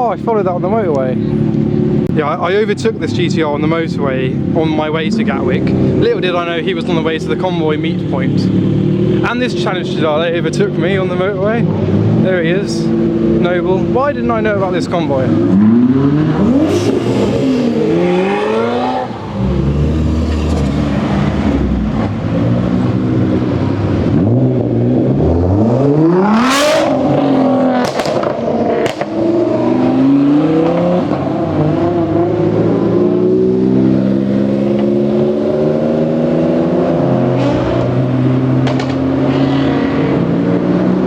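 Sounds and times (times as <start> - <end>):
supercar engines revving past: 3.6 - 41.0.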